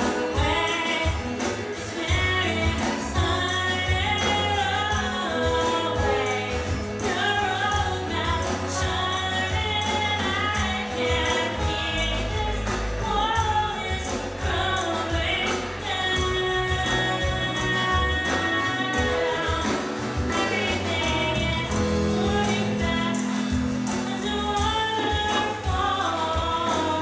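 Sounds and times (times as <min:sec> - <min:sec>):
acoustic guitar strumming: 0:00.0 - 0:27.0
drums: 0:00.0 - 0:27.0
electric guitar: 0:00.0 - 0:27.0
woman singing: 0:00.0 - 0:27.0.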